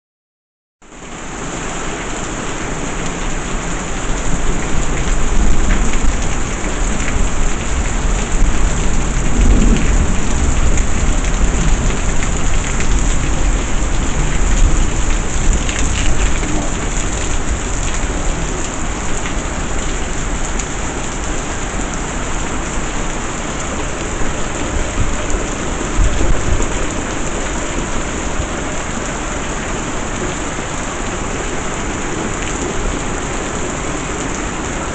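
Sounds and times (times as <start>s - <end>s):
heavy rain falling: 0.8s - 34.9s.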